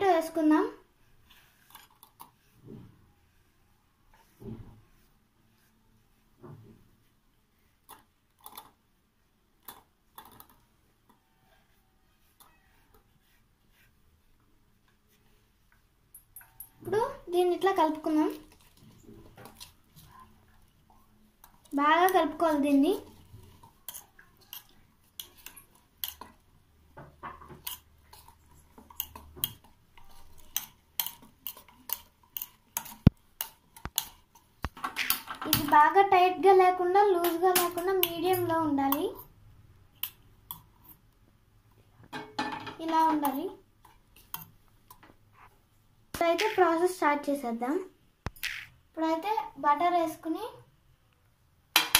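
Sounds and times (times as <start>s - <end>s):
spoon stirring batter in metal bowl: 0.0s - 49.5s.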